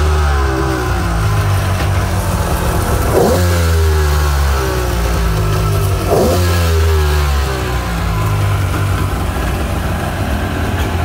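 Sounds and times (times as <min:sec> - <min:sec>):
two-stroke engine fast idle: 0:00.0 - 0:11.0.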